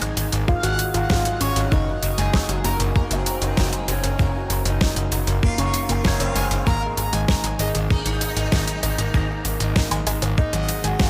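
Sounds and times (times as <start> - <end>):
bass: 0.0 - 11.0
steady drum beat: 0.0 - 11.0.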